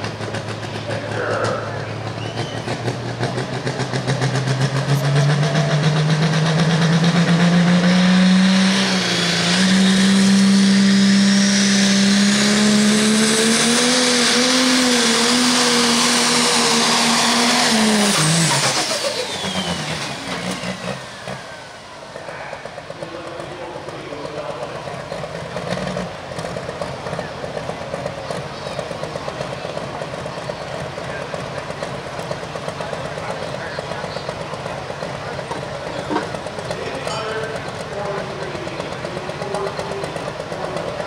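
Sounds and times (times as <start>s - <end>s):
diesel tractor engine at full power: 0.0s - 41.0s
high turbo whine: 0.0s - 41.0s.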